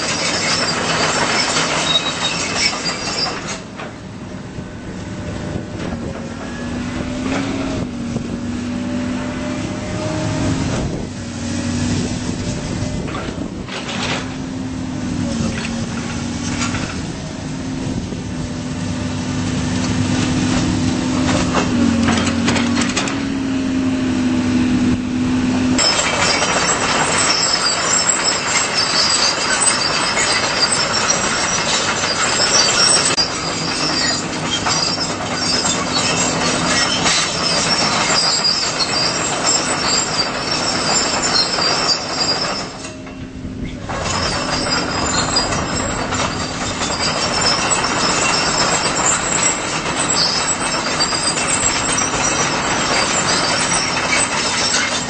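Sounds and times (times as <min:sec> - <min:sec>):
metallic clatter with high squeals: 0:00.0 - 0:04.0, 0:05.4 - 0:18.3, 0:19.8 - 0:23.5, 0:25.7 - 0:55.0
excavator engine and hydraulics droning: 0:00.0 - 0:55.0.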